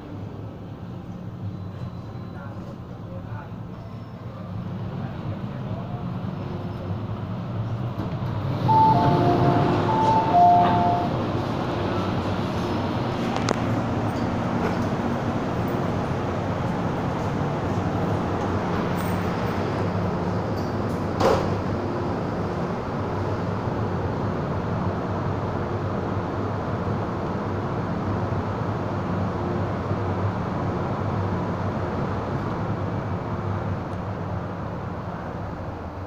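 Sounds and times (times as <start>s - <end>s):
stationary train car hum and hiss: 0.0s - 36.0s.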